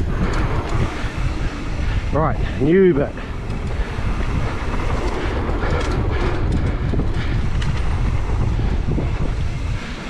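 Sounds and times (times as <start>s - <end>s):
sharp rattles and clicks: 0.0s - 10.0s
tyres rumbling on dirt: 0.0s - 10.0s
wind buffeting microphone: 0.0s - 10.0s.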